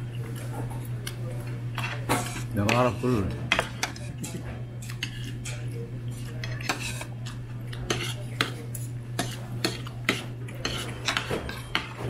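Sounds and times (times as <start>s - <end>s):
metal spoon scraping a plate: 1.8s - 12.0s.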